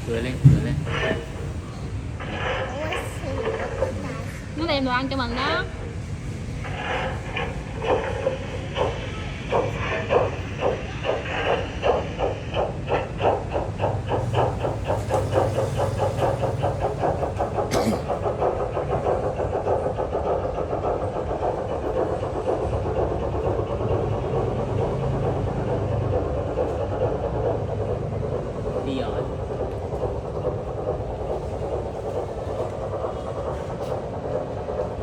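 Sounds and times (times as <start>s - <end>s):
low train rumble: 0.0s - 35.0s
train wheels clicking over rail joints: 0.0s - 35.0s.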